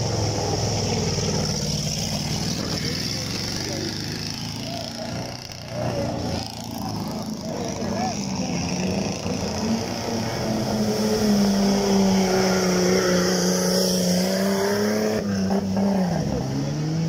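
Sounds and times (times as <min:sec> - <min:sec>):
buggy engine at high revs: 0:00.0 - 0:17.0.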